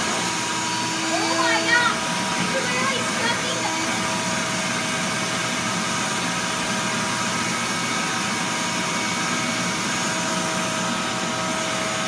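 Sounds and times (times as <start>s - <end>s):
shop vacuum running: 0.0s - 12.0s.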